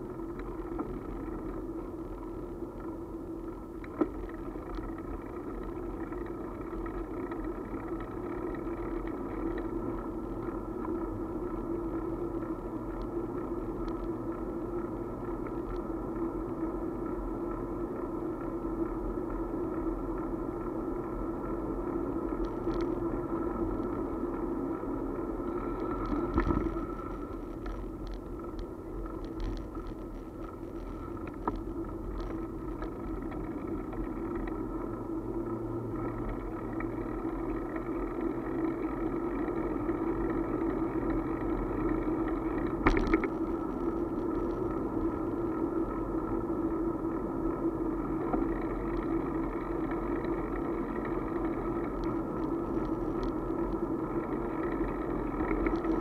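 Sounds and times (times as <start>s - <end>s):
motorbike rumble: 0.0s - 56.0s.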